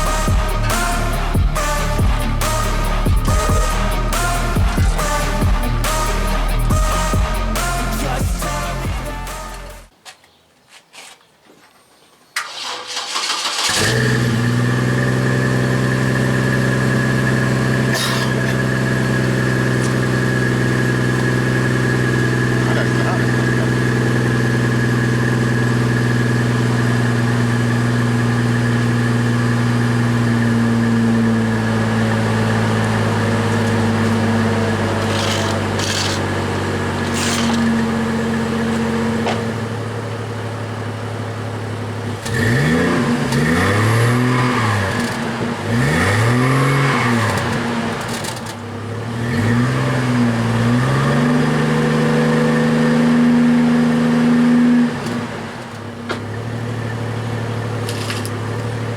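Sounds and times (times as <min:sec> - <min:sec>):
car engine idling and revving: 0:00.0 - 0:09.9, 0:12.4 - 0:58.9.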